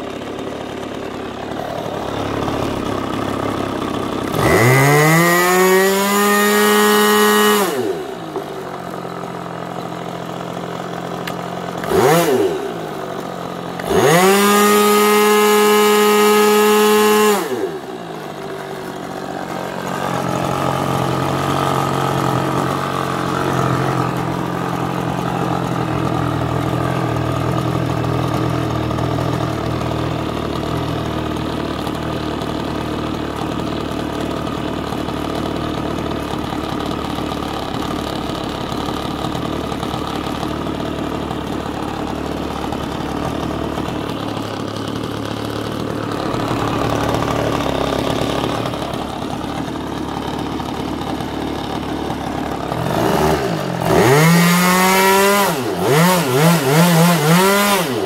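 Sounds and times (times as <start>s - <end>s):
model airplane engine: 0.0s - 58.0s.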